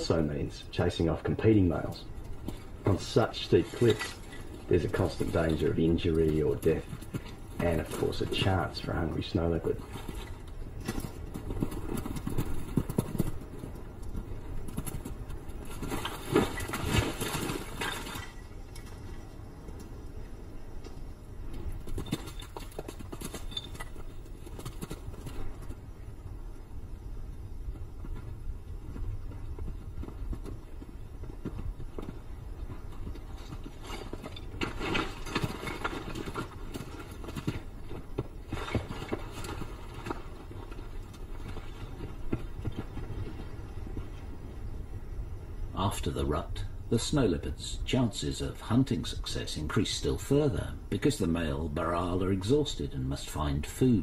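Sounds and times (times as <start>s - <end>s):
hooves clattering on rock: 0.0s - 45.4s.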